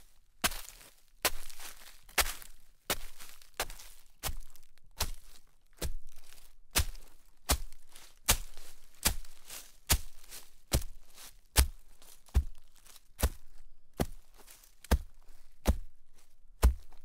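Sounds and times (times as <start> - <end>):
footsteps crunching in snow: 0.0 - 17.0.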